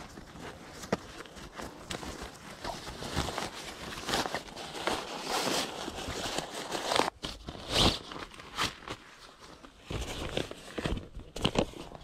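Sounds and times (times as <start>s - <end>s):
nylon fabric rustling: 0.0s - 12.0s.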